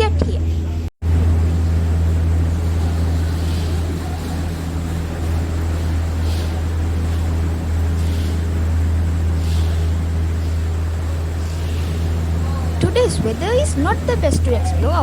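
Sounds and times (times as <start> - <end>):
low drone of gondola cableway: 0.7 - 15.0
faint hissing: 1.1 - 15.0.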